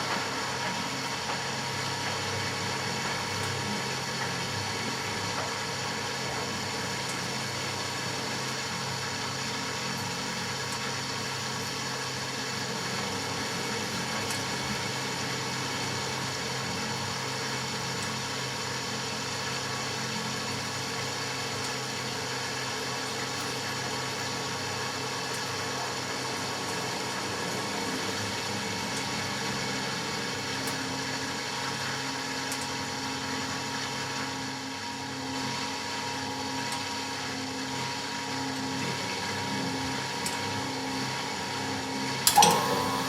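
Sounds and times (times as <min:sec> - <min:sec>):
washing machine running: 0:00.0 - 0:43.0.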